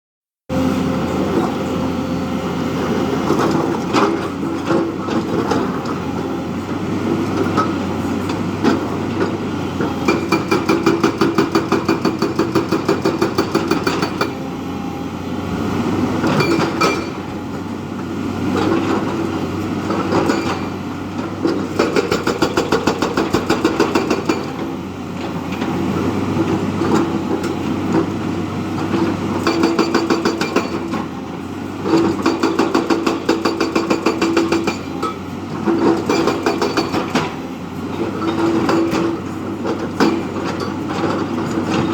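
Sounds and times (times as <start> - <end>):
heavy diesel engine running: 0.5 - 41.9.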